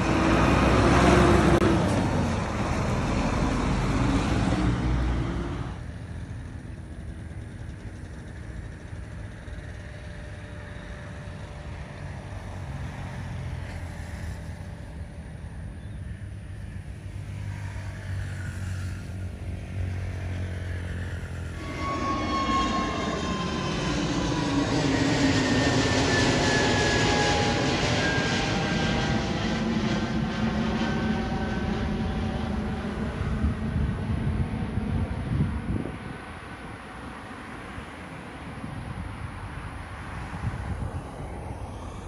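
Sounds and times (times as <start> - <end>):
distant aircraft engines rumbling: 0.0 - 42.0
jet engines at takeoff power: 0.0 - 42.0.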